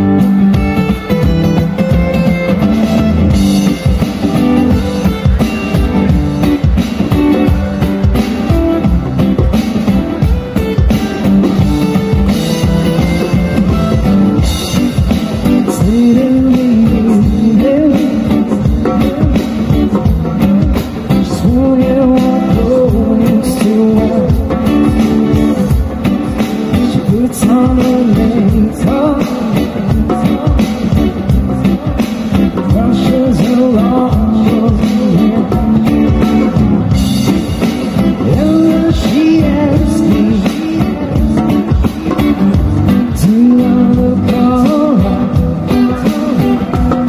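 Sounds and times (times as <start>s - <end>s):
song with sung melody and beat: 0.0s - 47.0s.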